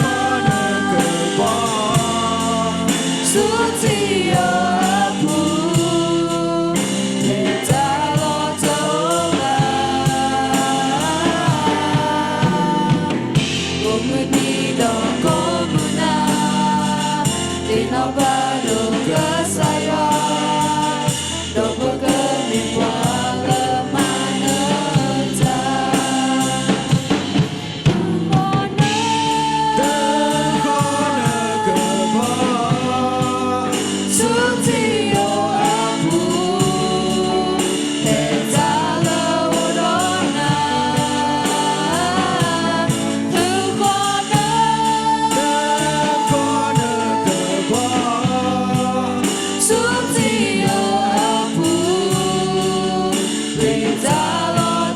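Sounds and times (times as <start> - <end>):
group singing a hymn: 0.0 - 54.9
steady drum beat: 0.0 - 54.9.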